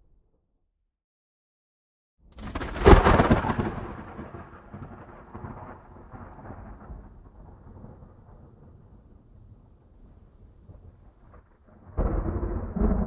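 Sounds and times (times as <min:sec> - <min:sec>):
thunder rumbling: 0:02.4 - 0:13.0.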